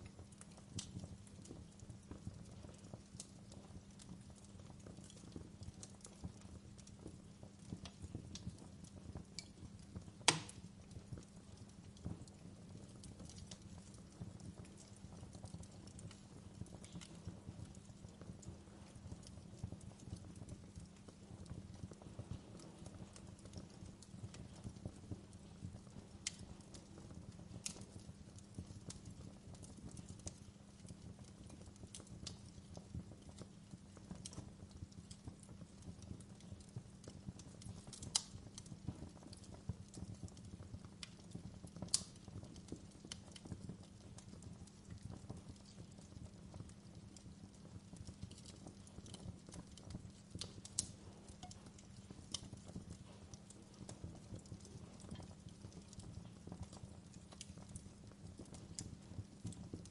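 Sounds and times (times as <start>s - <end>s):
burning wood pops: 0.0s - 59.9s
wood fire crackling: 0.0s - 59.9s.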